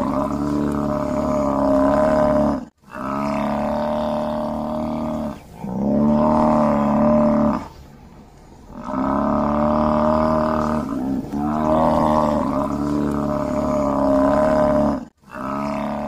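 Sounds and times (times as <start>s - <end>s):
bison bellowing: 0.0s - 7.8s, 8.7s - 16.0s.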